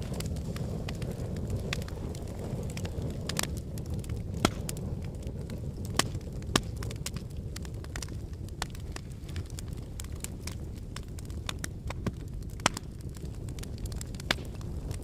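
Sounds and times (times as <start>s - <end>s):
fire crackling: 0.0s - 15.0s
sharp pops of fire: 0.0s - 15.0s.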